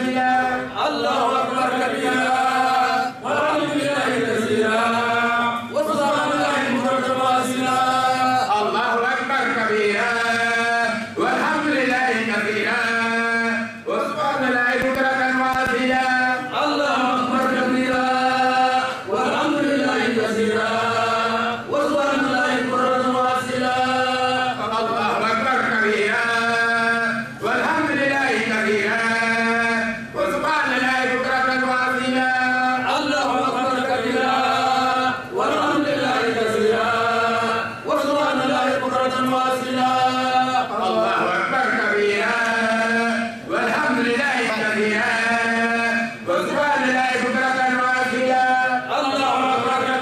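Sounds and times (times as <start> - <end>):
person chanting held notes: 0.0 - 50.0.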